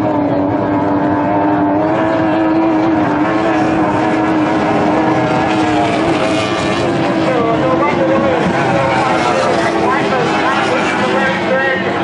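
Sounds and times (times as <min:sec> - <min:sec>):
powerboat engine running hard: 0:00.0 - 0:12.0.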